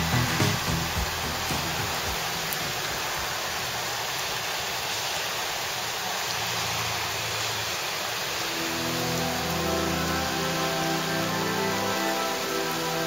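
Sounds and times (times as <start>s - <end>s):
heavy rain on water: 0.0s - 13.0s.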